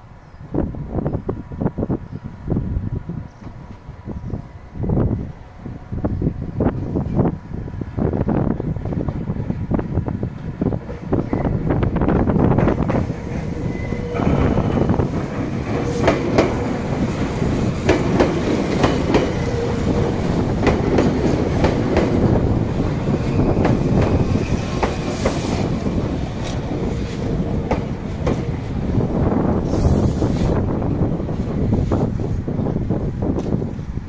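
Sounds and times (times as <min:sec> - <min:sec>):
electric train rumbling past: 0:00.0 - 0:34.0.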